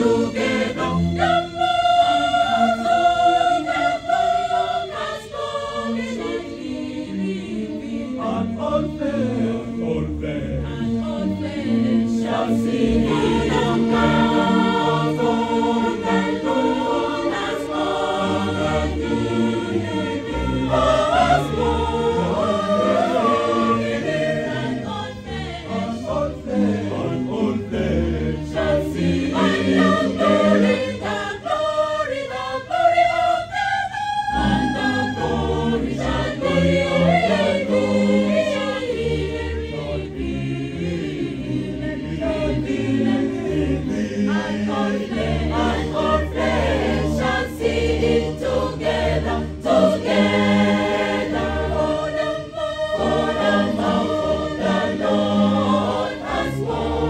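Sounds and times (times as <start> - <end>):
mixed choir singing gospel: 0.0 - 57.0.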